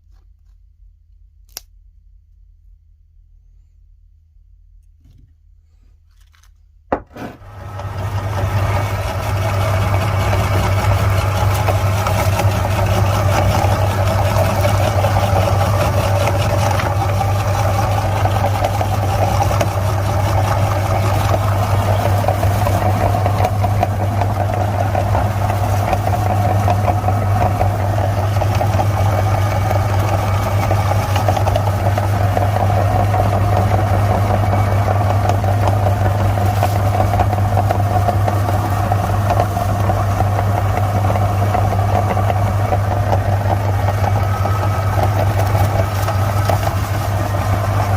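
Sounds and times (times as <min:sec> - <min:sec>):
meat grinder motor humming: 0:07.2 - 0:47.9
grinding crunchy candy: 0:07.4 - 0:47.9.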